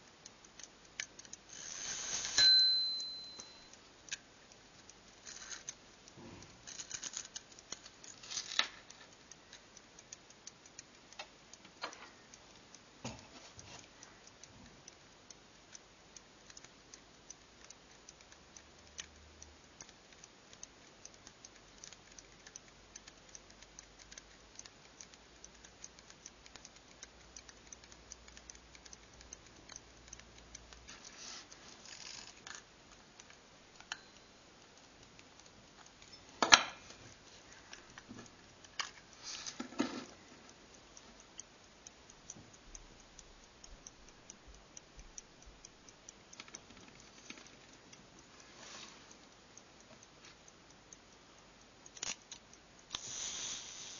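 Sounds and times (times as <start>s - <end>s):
pocket watch ticking: 0.0s - 53.9s.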